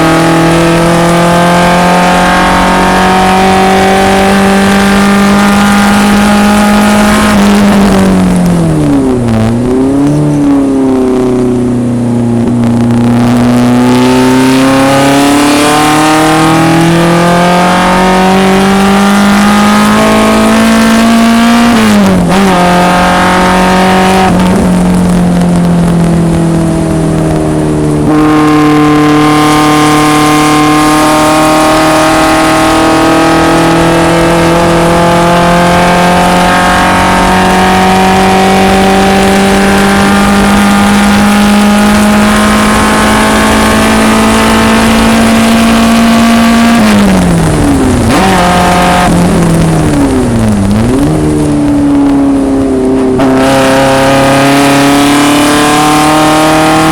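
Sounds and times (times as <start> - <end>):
race car engine at full throttle: 0.0 - 56.9.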